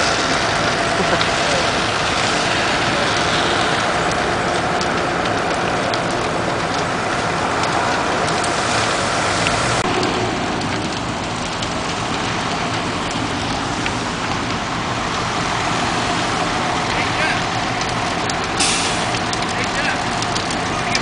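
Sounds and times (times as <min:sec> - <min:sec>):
fire truck engine running: 0:00.0 - 0:21.0
house fire crackling: 0:00.0 - 0:21.0.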